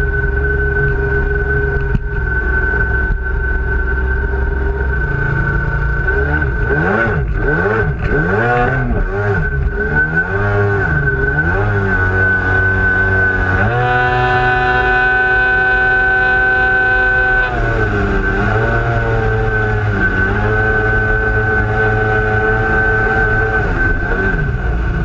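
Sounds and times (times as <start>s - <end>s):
watercraft engine whining: 0.0s - 25.0s.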